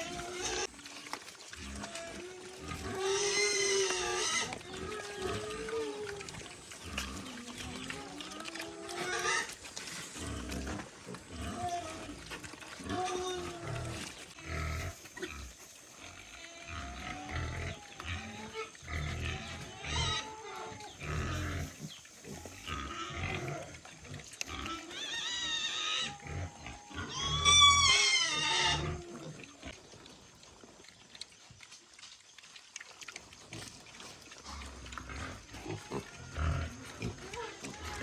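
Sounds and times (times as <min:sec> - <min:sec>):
pigs squealing: 0:00.0 - 0:29.8, 0:33.4 - 0:38.0
pigs grunting: 0:00.0 - 0:31.6, 0:32.8 - 0:38.0.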